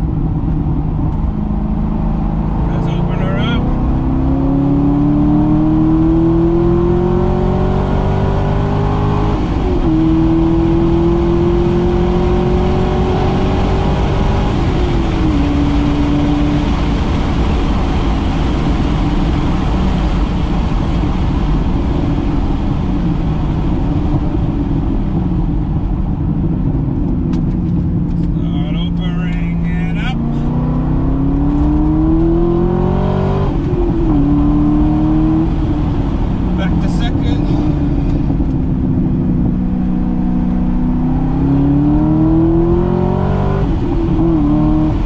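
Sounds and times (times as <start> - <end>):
car engine at full throttle: 0.0 - 45.0
wind and road noise: 0.0 - 45.0.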